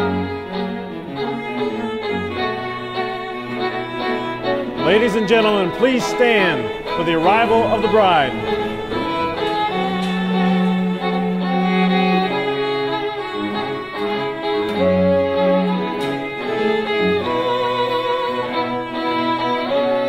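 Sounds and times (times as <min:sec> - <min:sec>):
low cello line: 0:00.0 - 0:20.0
violins playing melody: 0:00.0 - 0:20.0.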